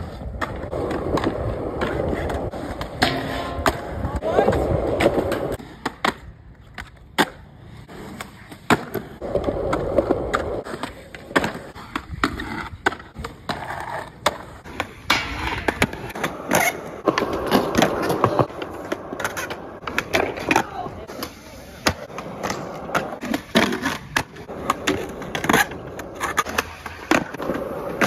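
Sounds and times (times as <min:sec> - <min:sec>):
skateboard clacks and knocks: 0:00.0 - 0:28.0
skateboard wheels rolling on concrete: 0:00.0 - 0:28.0.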